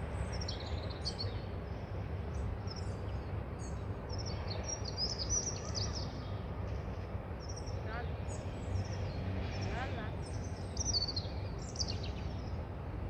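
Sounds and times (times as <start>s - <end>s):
low outdoor rumble: 0.0s - 13.0s
small birds chirping: 0.2s - 12.8s.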